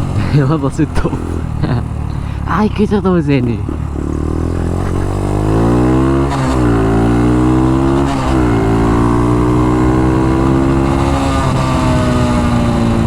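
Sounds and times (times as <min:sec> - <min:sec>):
small engine accelerating: 0:00.0 - 0:13.0.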